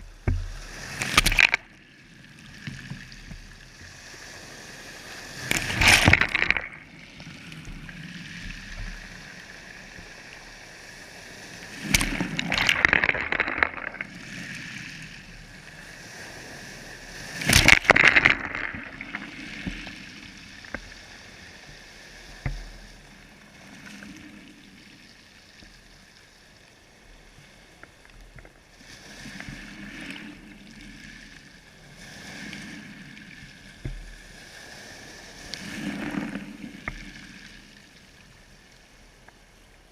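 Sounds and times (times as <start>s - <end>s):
steady wash of water: 0.0s - 39.2s
sea water splashing: 0.0s - 39.9s.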